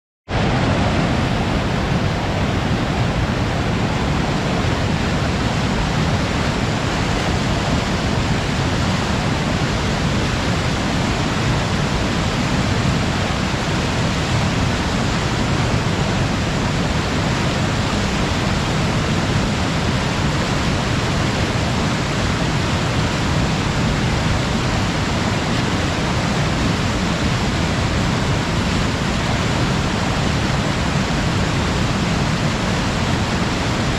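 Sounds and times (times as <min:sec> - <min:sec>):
water rushing over rocks: 0:00.3 - 0:33.9.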